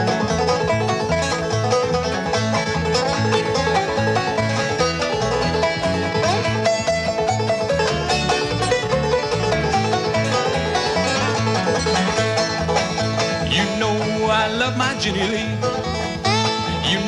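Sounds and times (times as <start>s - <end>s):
bouncing bass line: 0.0s - 17.0s
clawhammer banjo: 0.0s - 17.0s
lead guitar: 0.0s - 17.0s
slide guitar: 0.0s - 17.0s.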